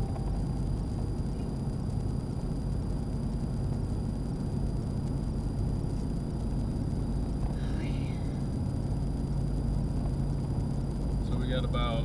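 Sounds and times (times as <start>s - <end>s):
diesel pickup rumble from inside: 0.0s - 12.0s
high-pitched whine: 0.0s - 12.0s.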